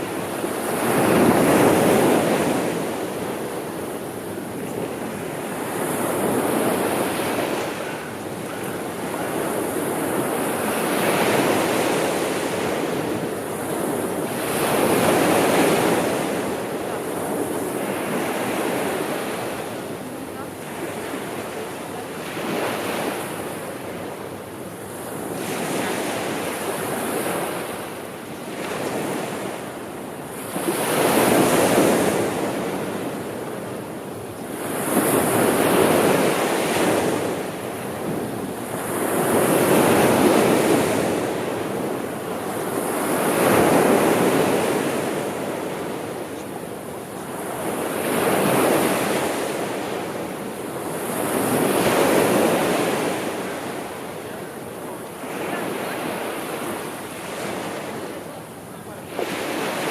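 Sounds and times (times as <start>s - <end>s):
sea waves washing on shore: 0.0s - 59.9s.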